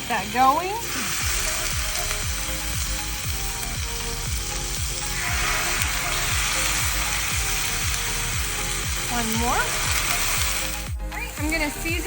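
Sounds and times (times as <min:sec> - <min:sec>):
background music with steady beat: 0:00.0 - 0:12.0
chicken sizzling on griddle: 0:00.0 - 0:12.0.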